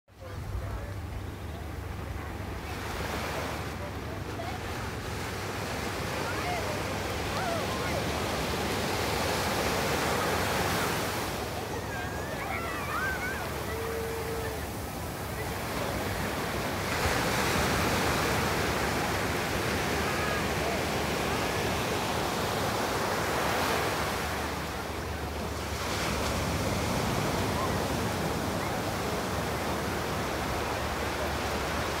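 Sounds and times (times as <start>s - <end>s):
small waves breaking on a beach: 0.1s - 32.0s.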